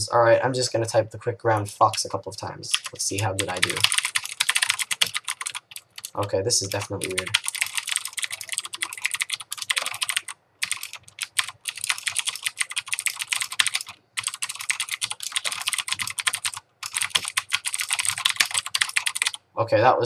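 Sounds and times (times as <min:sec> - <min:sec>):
clicky mechanical keyboard typing: 0:02.7 - 0:19.4.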